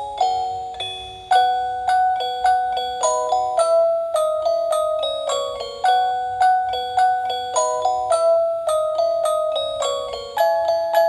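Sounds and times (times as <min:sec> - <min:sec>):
music box playing a tune: 0:00.0 - 0:11.0.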